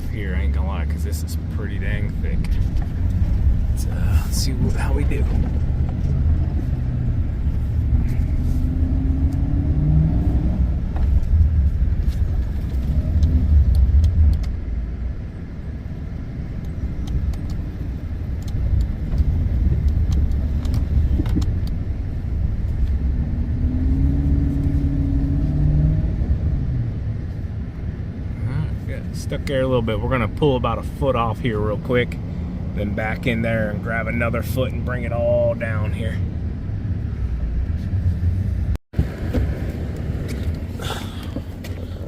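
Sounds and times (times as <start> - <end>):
plow engine labouring and revving: 0.0 - 35.1.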